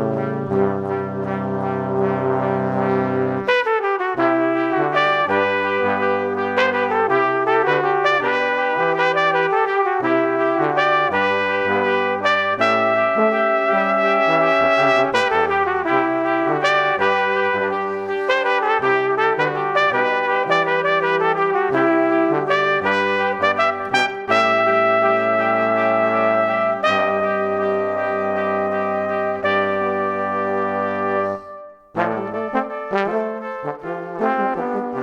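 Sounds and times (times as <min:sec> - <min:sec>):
brass music: 0:00.0 - 0:35.0.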